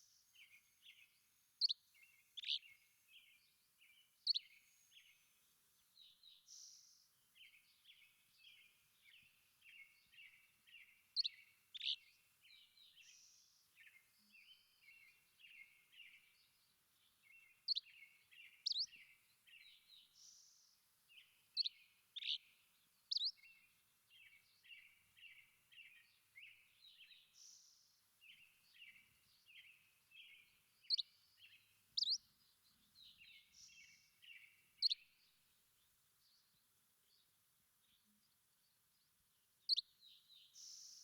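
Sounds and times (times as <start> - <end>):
songbird chirps and whistles: 0.0 - 5.3, 6.0 - 35.3, 39.6 - 41.0.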